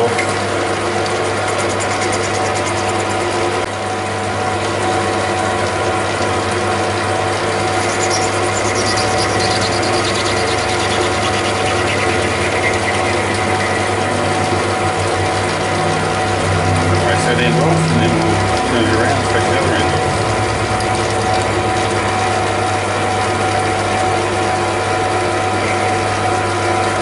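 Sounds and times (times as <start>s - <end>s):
lathe gear whine and hum: 0.0s - 27.0s.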